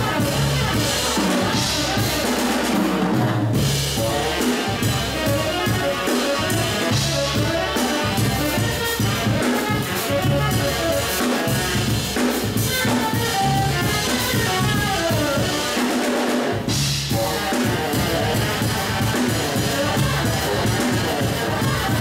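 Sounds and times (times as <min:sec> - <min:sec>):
drum kit groove: 0:00.0 - 0:22.0
electric bass: 0:00.0 - 0:22.0
saxophone melody: 0:00.0 - 0:22.0.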